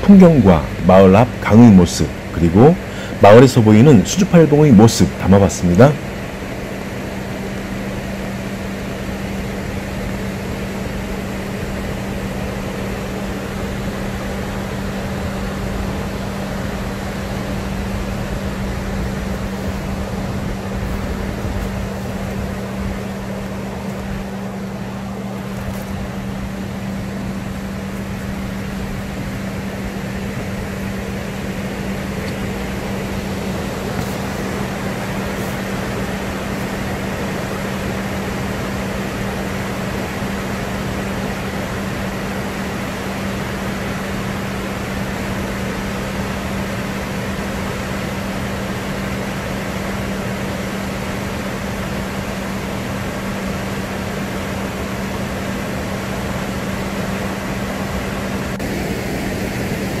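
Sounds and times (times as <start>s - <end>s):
low hum: 0.0s - 60.0s
steady rushing noise: 0.0s - 60.0s.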